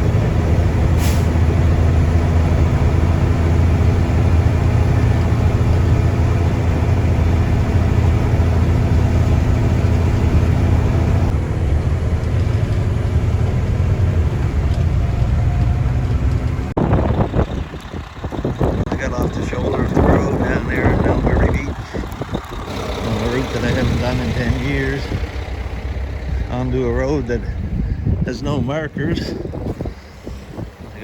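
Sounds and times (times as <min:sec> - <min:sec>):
truck diesel engine drone: 0:00.0 - 0:31.0.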